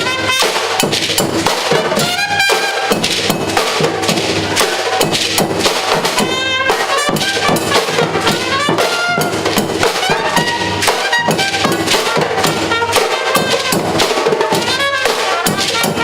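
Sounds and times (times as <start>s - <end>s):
horn lines: 0.0s - 1.2s, 1.9s - 16.0s
driving drumming and percussion: 0.0s - 16.0s
live latin band: 0.0s - 16.0s.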